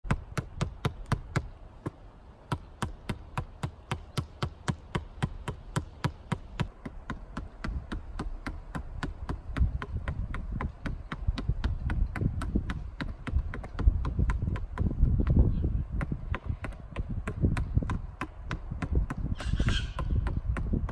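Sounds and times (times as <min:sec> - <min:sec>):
ball tapping against a wall: 0:00.1 - 0:20.9.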